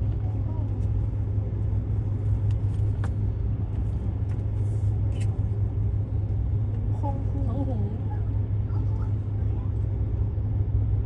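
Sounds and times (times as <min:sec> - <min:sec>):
low rumble with hum: 0:00.0 - 0:11.0.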